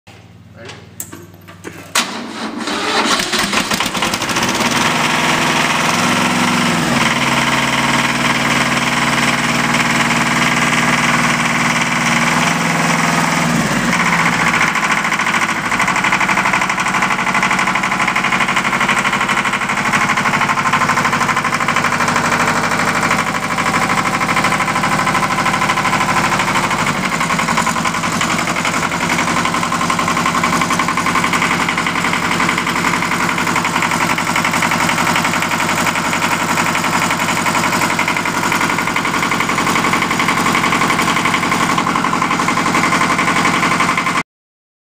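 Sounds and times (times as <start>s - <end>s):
diesel tractor engine clattering: 0.6s - 44.2s.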